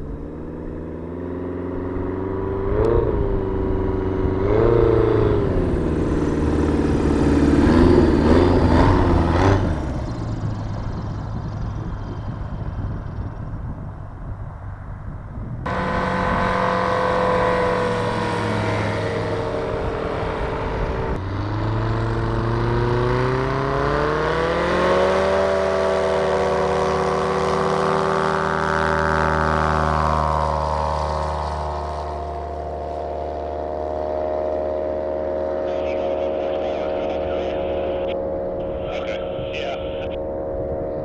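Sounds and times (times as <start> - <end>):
propeller aircraft engine: 0.0 - 41.0.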